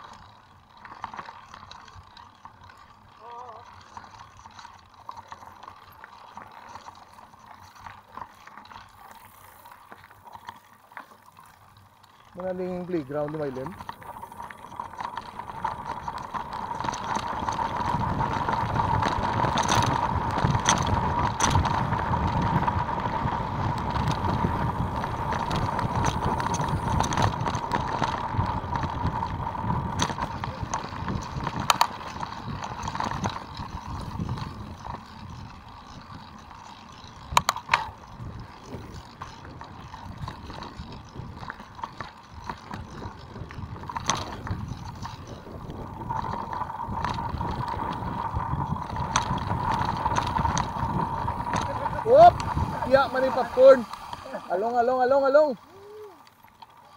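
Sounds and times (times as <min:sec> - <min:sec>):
bike tyres rumbling over dirt: 0:00.0 - 0:56.9.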